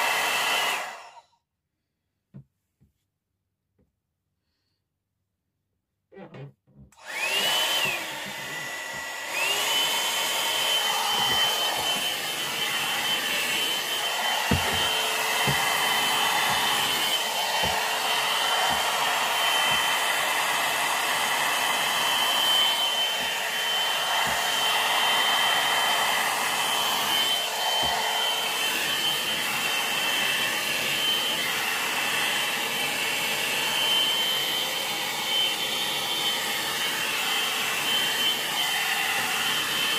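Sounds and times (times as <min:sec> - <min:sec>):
hot air brush motor whining: 0:00.0 - 0:01.2, 0:07.0 - 0:39.9.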